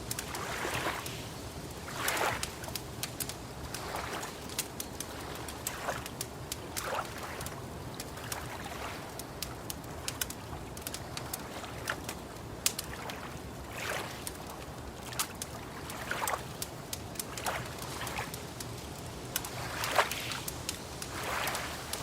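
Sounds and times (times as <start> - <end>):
wood fire crackling and popping: 0.0 - 22.0
water lapping: 0.1 - 22.0.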